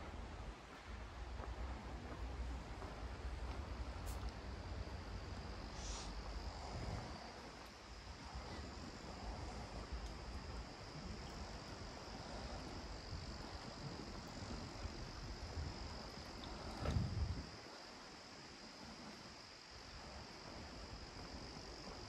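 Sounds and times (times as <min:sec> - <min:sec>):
wind rumble on microphone: 0:00.0 - 0:22.0
insects chirring: 0:01.2 - 0:22.0.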